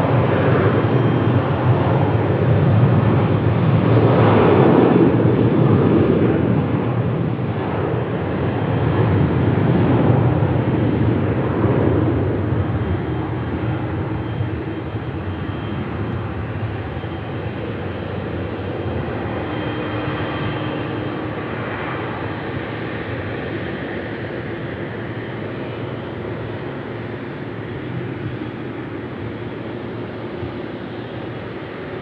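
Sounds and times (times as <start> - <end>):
faint engine whine: 0.0 - 32.0
jet engines rumbling: 0.0 - 32.0.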